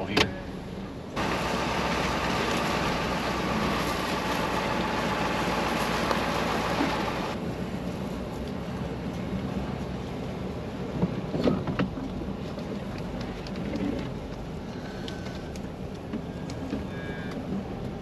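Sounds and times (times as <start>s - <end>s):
truck engine and tyre noise: 0.0s - 18.0s.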